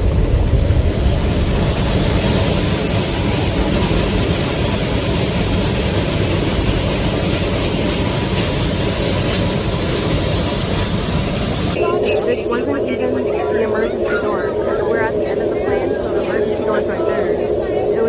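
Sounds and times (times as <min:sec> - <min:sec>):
airliner engine noise: 0:00.0 - 0:18.0
rush of air in airliner cabin: 0:00.0 - 0:18.0.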